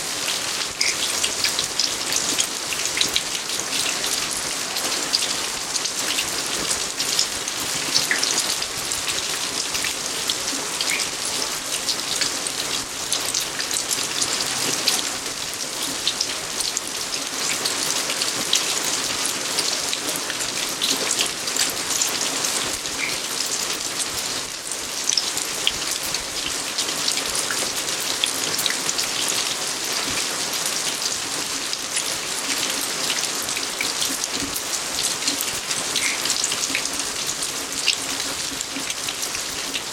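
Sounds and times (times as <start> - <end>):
rain falling on garden: 0.0 - 39.9.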